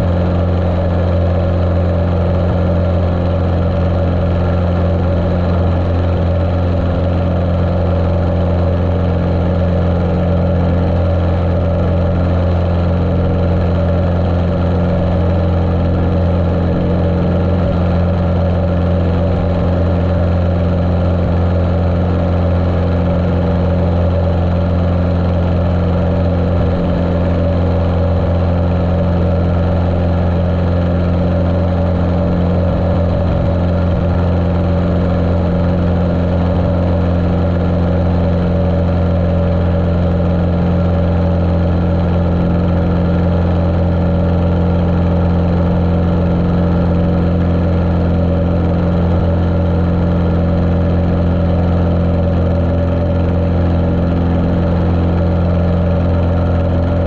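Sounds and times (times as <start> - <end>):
muffled airplane engine running: 0.0 - 57.0.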